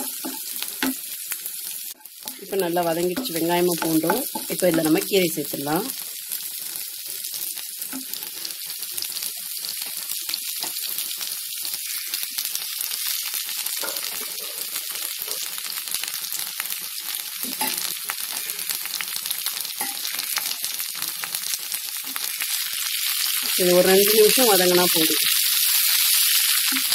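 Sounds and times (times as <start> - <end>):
oil sizzling in a frying pan: 0.0 - 26.9.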